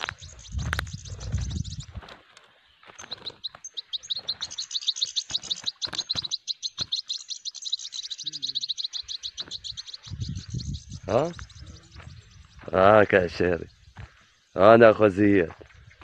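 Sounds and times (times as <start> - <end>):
goldfinch twittering: 0.0 - 2.0, 2.8 - 16.0.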